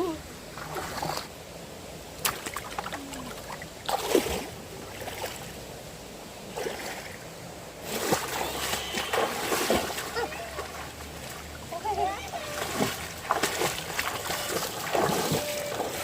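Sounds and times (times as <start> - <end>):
stream water rushing: 0.0 - 16.0
water splashing and sloshing: 0.0 - 16.0.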